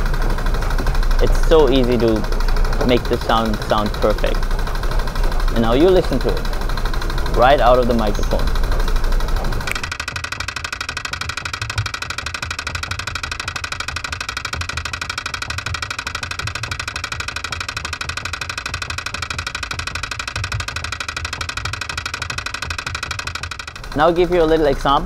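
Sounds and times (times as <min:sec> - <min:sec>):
escalator hum and vibration: 0:00.0 - 0:25.0
escalator rapid clicking: 0:00.0 - 0:25.0.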